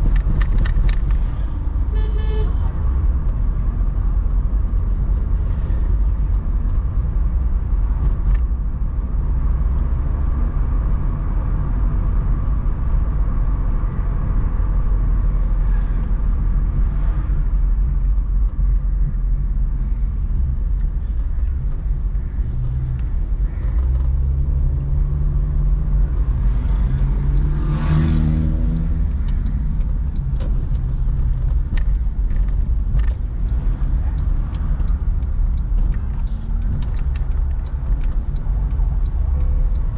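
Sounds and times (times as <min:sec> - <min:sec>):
car driving low rumble: 0:00.0 - 0:39.9
vehicle engine: 0:00.0 - 0:39.9.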